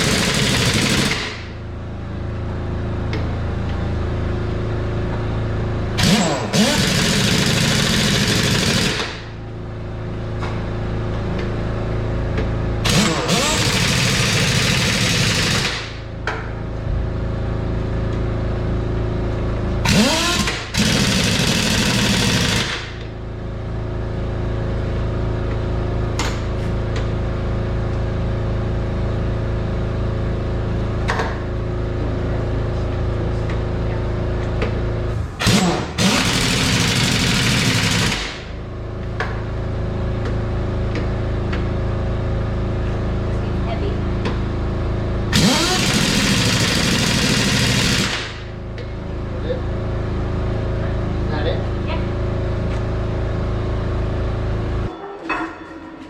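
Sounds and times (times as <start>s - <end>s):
engine-like hum: 0.0s - 56.0s.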